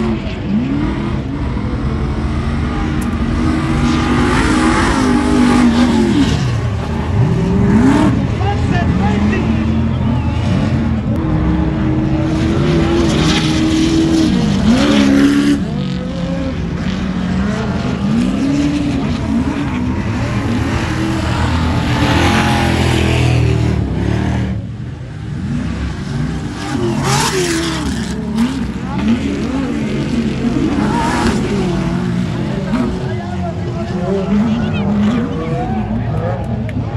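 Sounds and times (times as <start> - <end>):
engines revving: 0.0 - 36.9
tires rumbling on dirt: 0.0 - 36.9.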